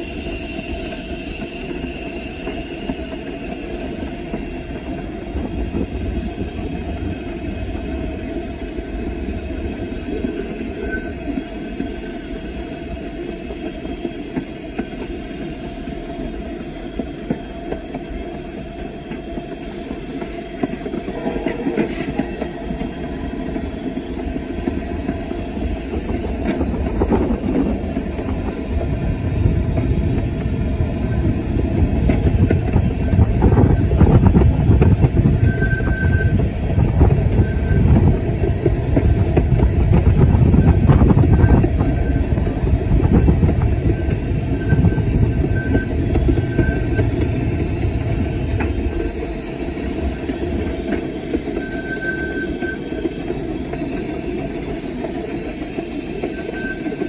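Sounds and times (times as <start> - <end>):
locomotive wheels rumbling on track: 0.0 - 57.0.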